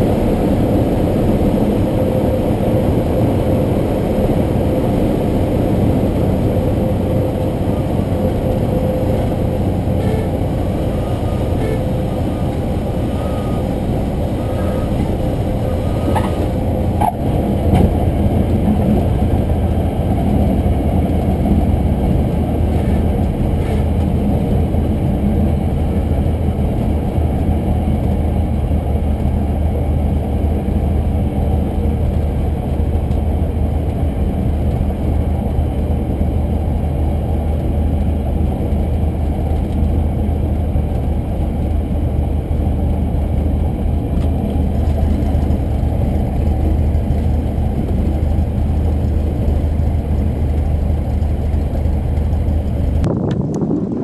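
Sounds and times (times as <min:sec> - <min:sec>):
propeller plane engine running: 0:00.0 - 0:54.0.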